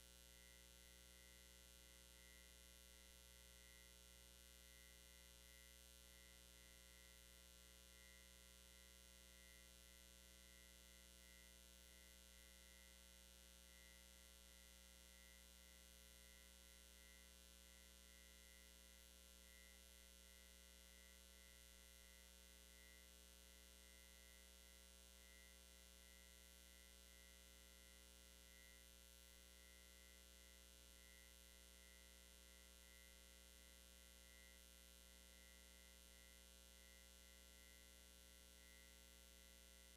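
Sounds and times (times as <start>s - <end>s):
faint mains hum: 0.0s - 39.9s.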